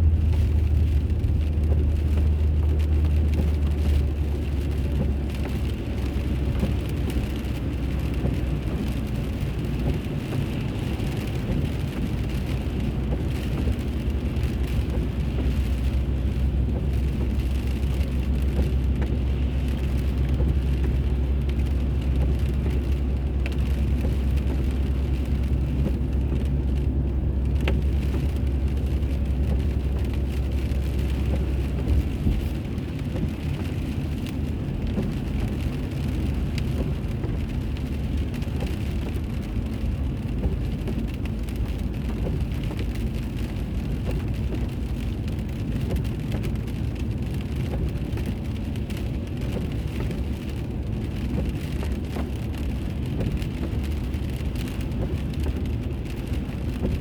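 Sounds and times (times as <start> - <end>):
car engine and tyre drone: 0.0 - 57.0.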